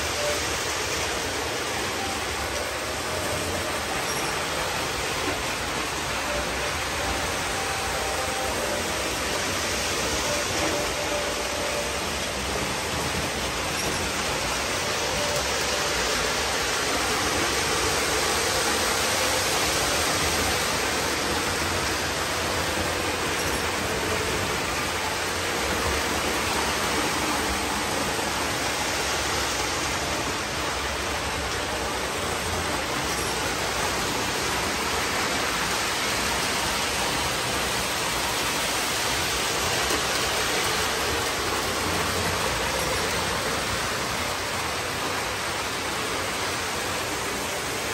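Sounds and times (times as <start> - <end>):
model trains rolling on track: 0.0 - 47.9.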